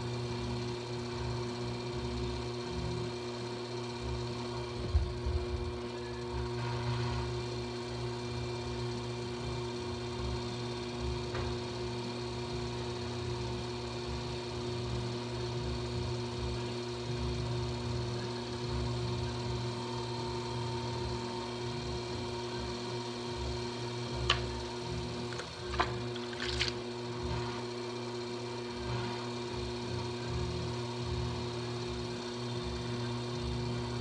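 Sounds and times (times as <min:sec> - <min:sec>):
potter's wheel motor hum: 0:00.0 - 0:34.0.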